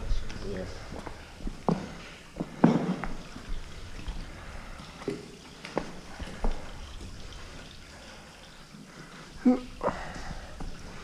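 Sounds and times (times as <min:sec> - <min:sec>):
water trickling over rock: 0:00.0 - 0:11.0.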